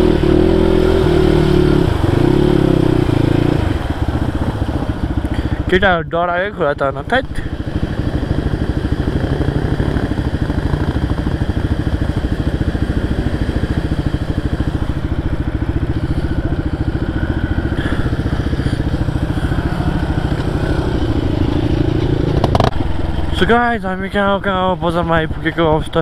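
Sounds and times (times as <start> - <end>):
motorcycle engine at low revs: 0.0 - 26.0.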